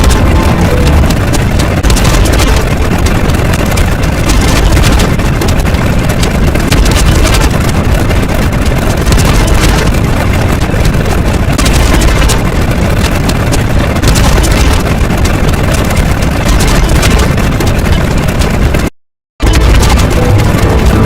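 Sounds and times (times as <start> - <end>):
loud rumble with crackling: 0.0 - 21.0.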